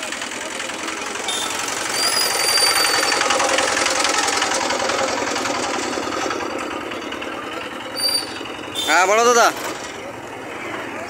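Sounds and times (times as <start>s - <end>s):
small vehicle engine passing: 0.0s - 11.0s.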